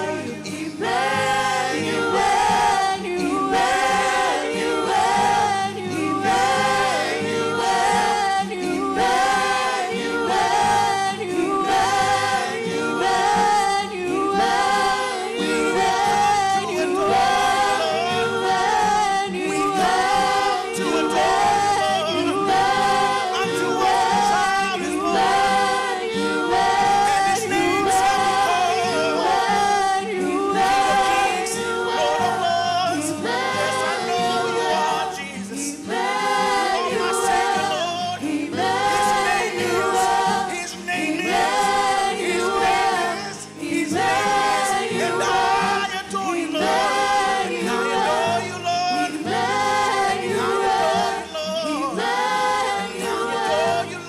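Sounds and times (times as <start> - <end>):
group singing into microphones: 0.0 - 54.0.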